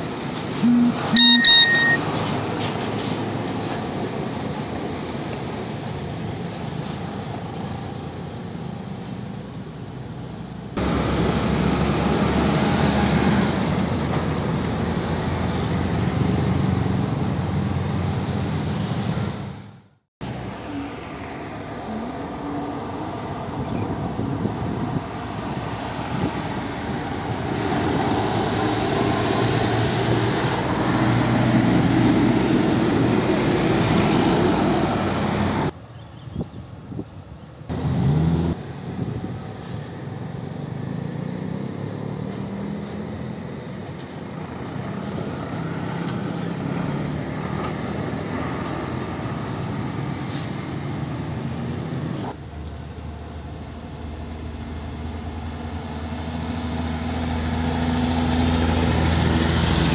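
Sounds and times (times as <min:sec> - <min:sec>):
diesel truck engines passing: 0:00.0 - 0:35.9, 0:37.6 - 0:59.9
road traffic: 0:00.0 - 0:59.9.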